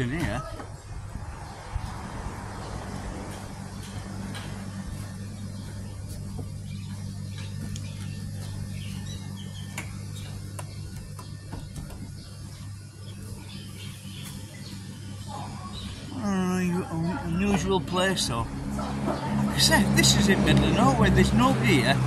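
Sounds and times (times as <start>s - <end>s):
low machine hum: 0.8s - 22.0s.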